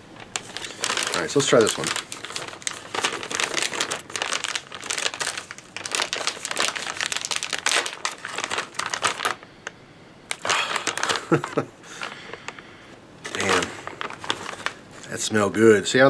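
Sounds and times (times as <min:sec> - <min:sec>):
plastic bag crinkling: 0:00.0 - 0:15.3.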